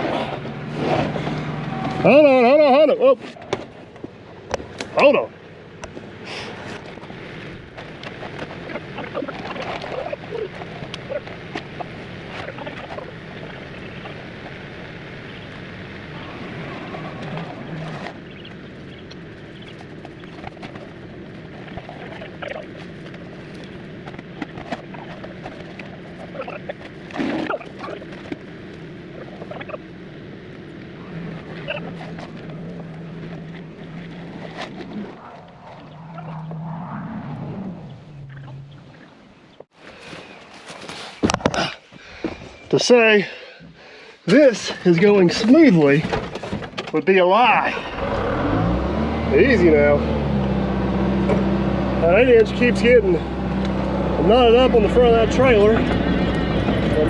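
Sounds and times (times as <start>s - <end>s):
diesel engine running: 0.0s - 39.8s, 47.3s - 57.0s.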